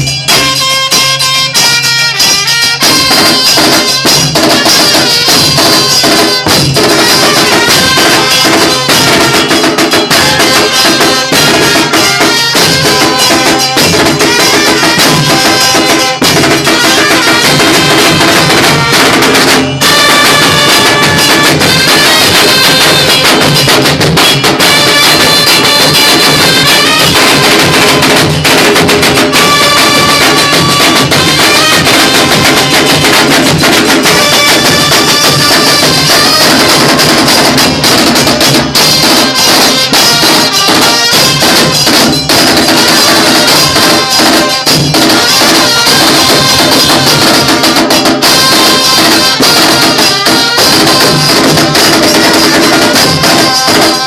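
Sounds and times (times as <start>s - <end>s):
dance music with drum beat: 0.0s - 54.0s.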